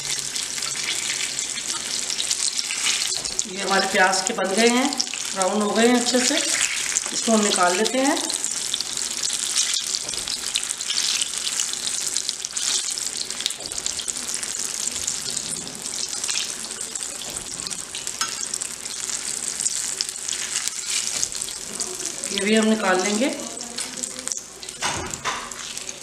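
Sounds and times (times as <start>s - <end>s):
deep-frying in hot oil: 0.0s - 26.0s.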